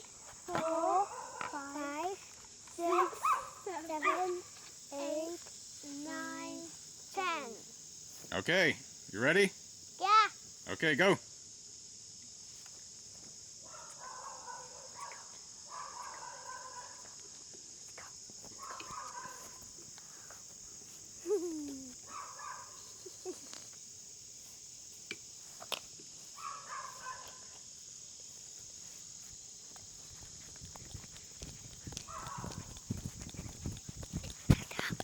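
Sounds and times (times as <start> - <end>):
crickets chirring: 0.0 - 35.0.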